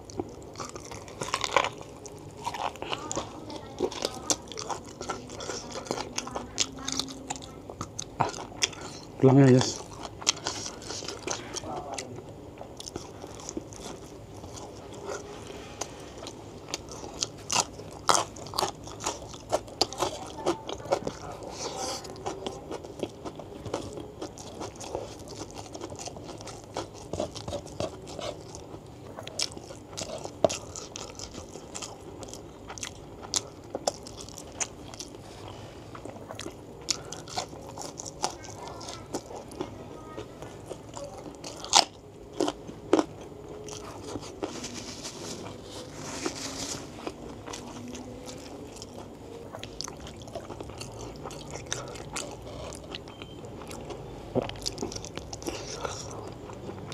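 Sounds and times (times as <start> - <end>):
person chewing and biting food: 0.0 - 56.9.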